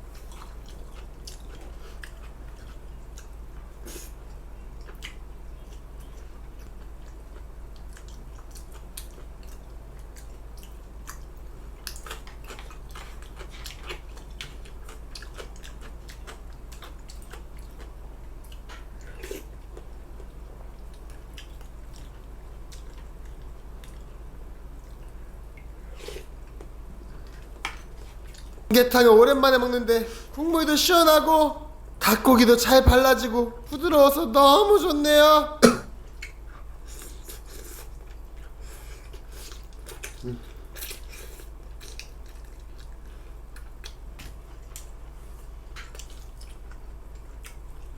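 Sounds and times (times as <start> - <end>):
steady low hum: 0.0 - 47.9
chewing and biting: 0.1 - 28.7, 36.0 - 47.9.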